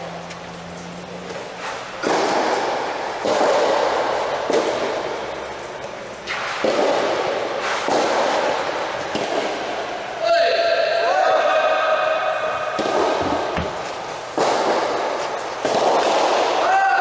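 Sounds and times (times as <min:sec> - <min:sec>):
racket hitting ball with long echo: 0:01.9 - 0:17.0.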